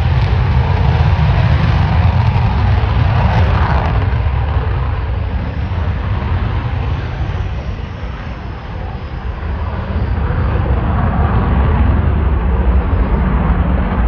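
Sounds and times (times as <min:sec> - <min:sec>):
fighter jet engine rumble: 0:00.0 - 0:14.0.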